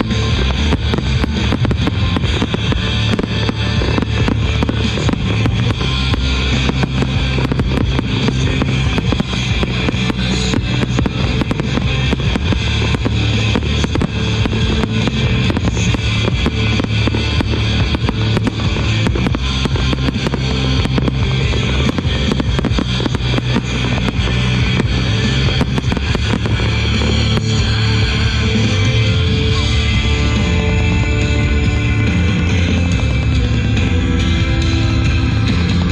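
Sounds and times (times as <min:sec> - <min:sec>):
fireworks popping and crackling: 0:00.0 - 0:35.9
loud guitar and drum music: 0:00.0 - 0:35.9.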